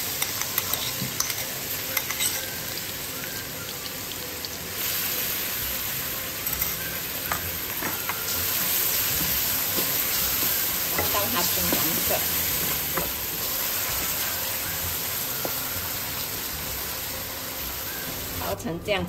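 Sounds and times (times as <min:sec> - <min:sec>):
garlic sizzling in oil: 0:00.0 - 0:19.0.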